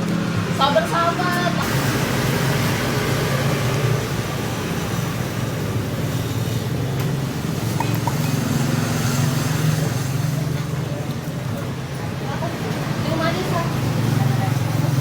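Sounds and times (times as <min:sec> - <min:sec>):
scooter engine running: 0:01.4 - 0:15.0.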